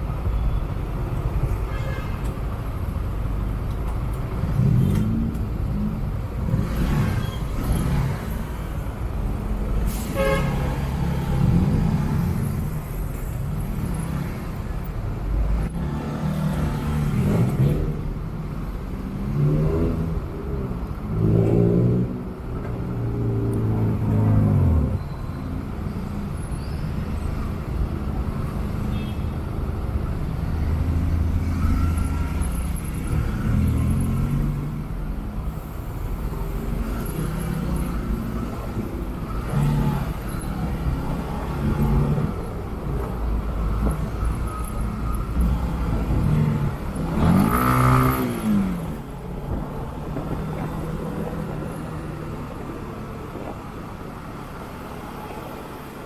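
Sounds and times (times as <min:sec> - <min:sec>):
engines revving in traffic: 0:00.0 - 0:56.0.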